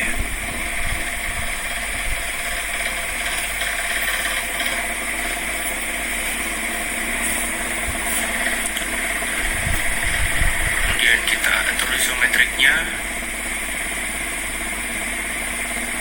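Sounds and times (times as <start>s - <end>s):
steady mechanical hum with hiss: 0.0s - 16.0s.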